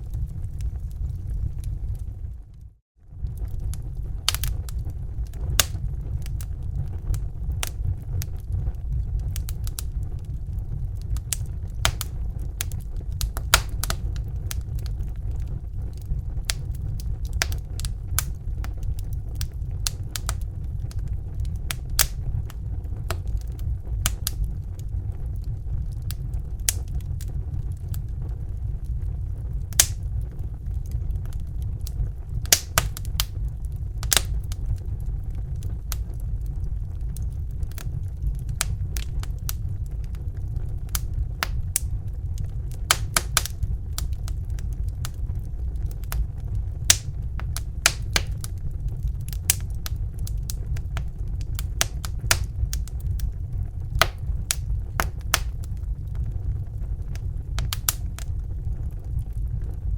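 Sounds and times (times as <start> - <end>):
fire crackling: 0.0 - 59.9.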